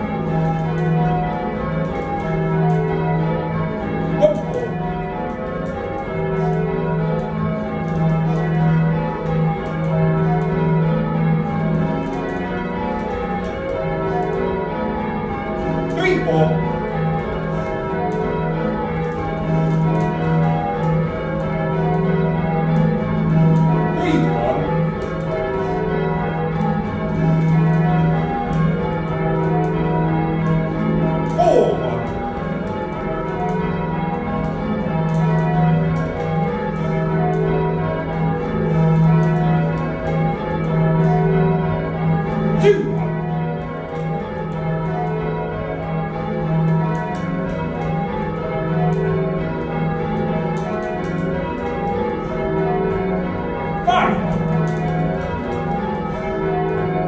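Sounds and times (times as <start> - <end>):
church bells ringing: 0.0 - 57.0.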